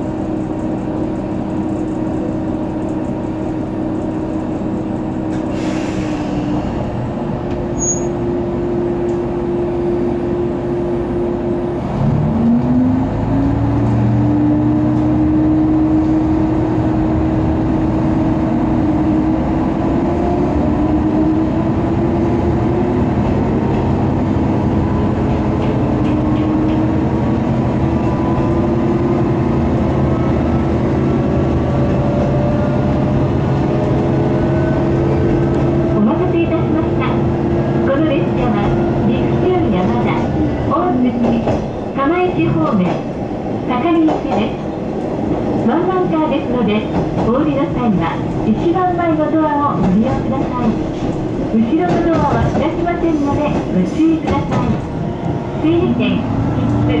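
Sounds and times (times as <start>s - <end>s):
railcar engine revving up: 0.0s - 57.0s.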